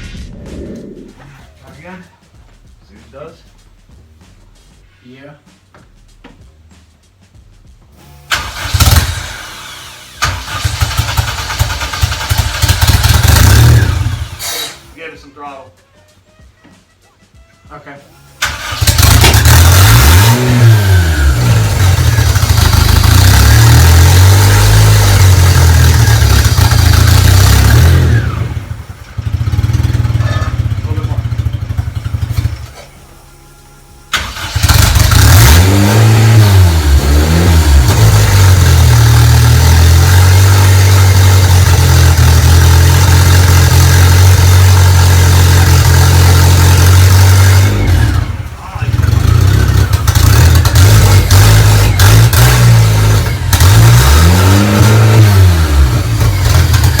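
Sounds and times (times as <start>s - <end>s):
car engine revving and idling: 8.0s - 15.0s, 18.1s - 57.0s.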